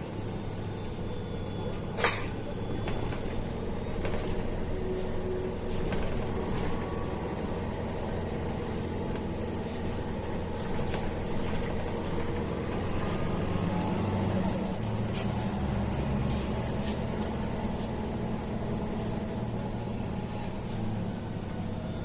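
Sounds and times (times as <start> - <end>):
bus engine and road drone: 0.0 - 22.0.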